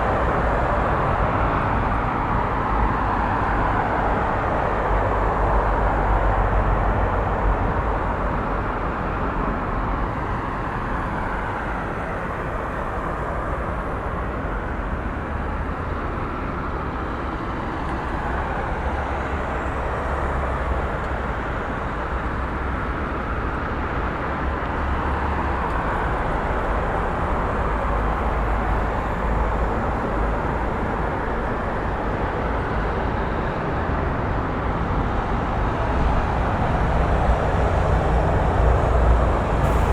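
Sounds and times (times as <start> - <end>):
city traffic noise: 0.0 - 39.9.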